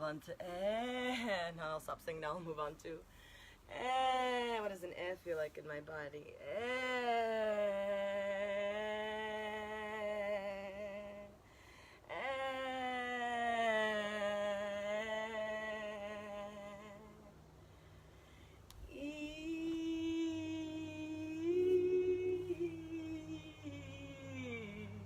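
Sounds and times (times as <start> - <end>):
woman singing held vowel tones: 0.0 - 3.1, 3.7 - 17.5, 18.6 - 25.0.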